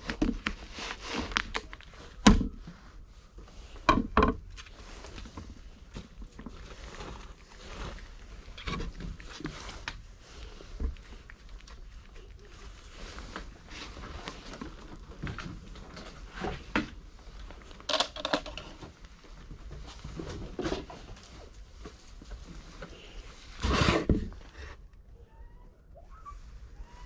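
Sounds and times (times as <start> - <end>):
cats crunching dry kibble: 0.0 - 3.9, 4.5 - 24.8.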